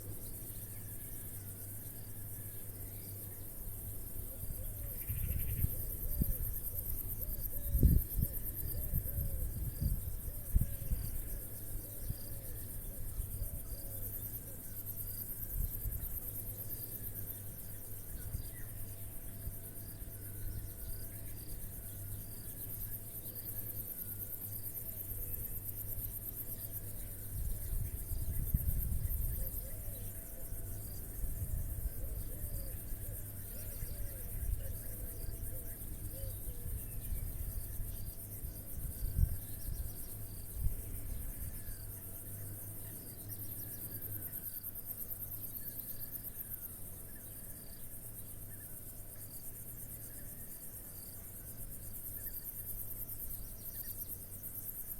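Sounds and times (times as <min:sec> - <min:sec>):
crickets chirring: 0:00.0 - 0:54.9
faint insect call: 0:00.0 - 0:54.9.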